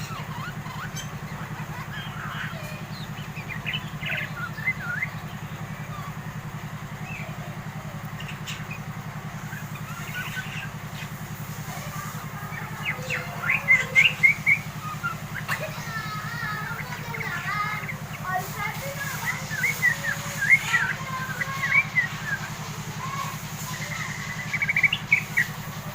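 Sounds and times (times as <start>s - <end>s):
young bird chattering chirps: 0.0s - 6.2s, 7.0s - 25.8s
steady low hum: 0.0s - 25.9s.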